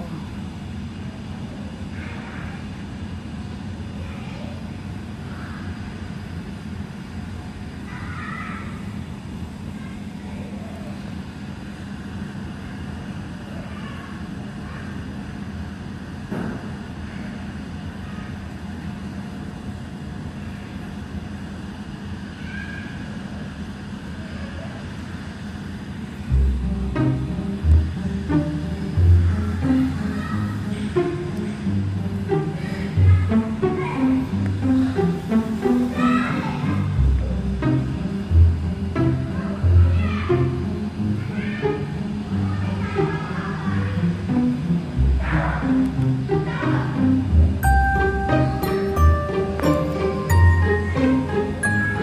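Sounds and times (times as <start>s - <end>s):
low rumbling machinery hum: 0.0s - 52.0s.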